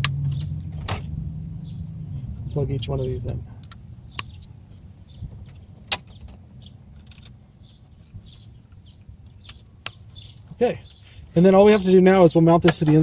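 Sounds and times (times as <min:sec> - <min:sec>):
low steady rumble: 0:00.0 - 0:12.8.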